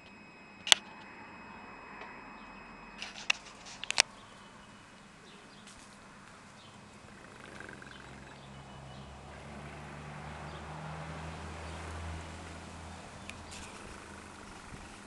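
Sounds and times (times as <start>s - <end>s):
birds chirping: 0.0s - 15.0s
vehicle engine hum: 0.0s - 15.0s.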